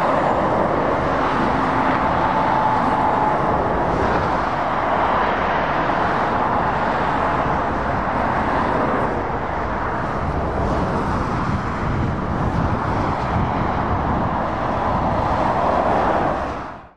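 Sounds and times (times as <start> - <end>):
tyre noise of passing traffic: 0.0 - 16.9.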